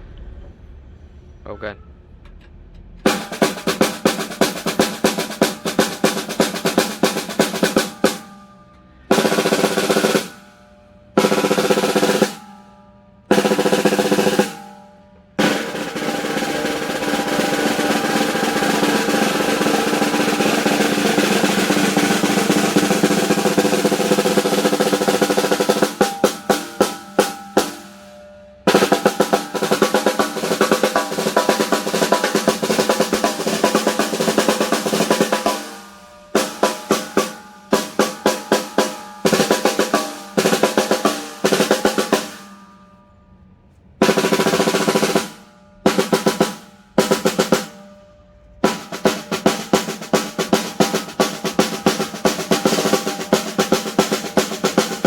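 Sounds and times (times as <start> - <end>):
snare drum roll: 3.0 - 8.4, 9.1 - 10.5, 11.2 - 12.6, 13.3 - 14.8, 15.4 - 28.1, 28.7 - 42.6, 44.0 - 47.9, 48.6 - 55.0
snare drum strokes: 3.0 - 8.5, 9.1 - 10.6, 11.2 - 12.6, 13.3 - 14.8, 15.4 - 28.1, 28.7 - 42.7, 44.0 - 47.9, 48.6 - 55.0.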